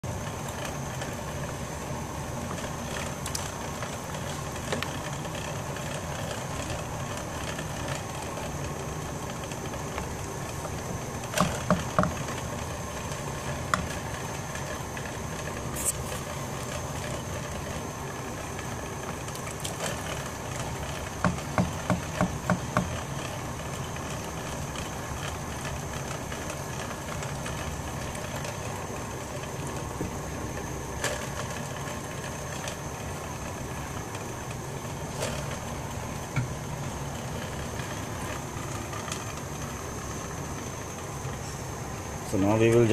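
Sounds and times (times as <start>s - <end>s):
gas burner rushing: 0.0s - 42.9s.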